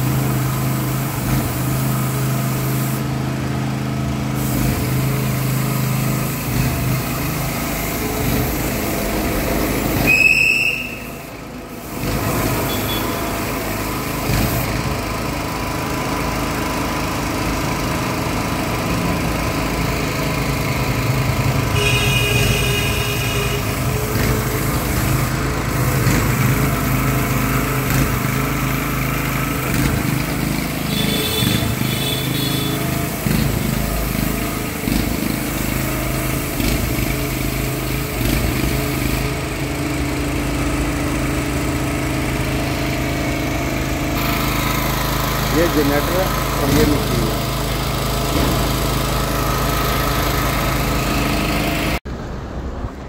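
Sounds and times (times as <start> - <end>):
paint sprayer hiss: 0.0 - 52.0
petrol generator running: 0.0 - 53.0.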